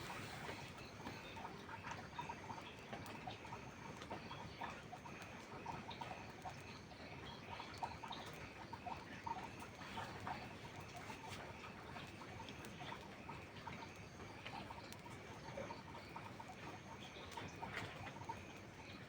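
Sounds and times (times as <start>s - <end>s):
crackling wood fire: 0.0s - 19.0s
steady rain pattering: 0.0s - 19.0s.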